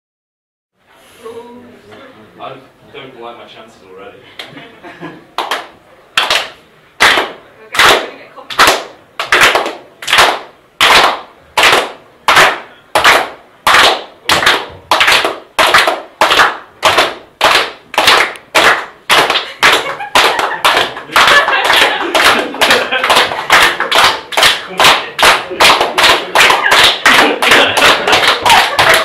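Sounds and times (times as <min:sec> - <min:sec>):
group clapping in unison: 0:05.3 - 0:29.0.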